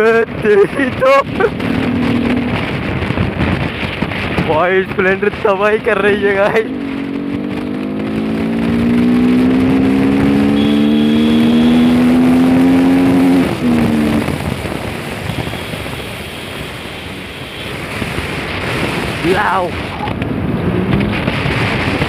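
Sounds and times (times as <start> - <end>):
motorcycle engine with loud exhaust: 0.0 - 22.0
steady rushing noise: 0.0 - 22.0.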